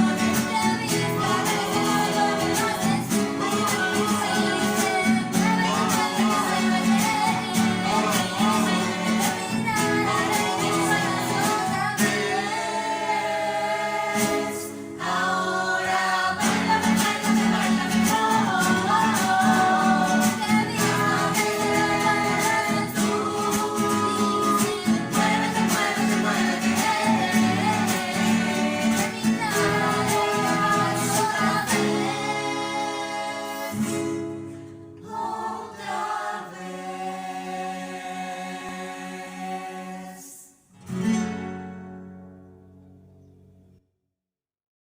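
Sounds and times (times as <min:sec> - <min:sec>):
voices singing together: 0:00.0 - 0:40.7
strummed acoustic guitars: 0:00.0 - 0:43.6.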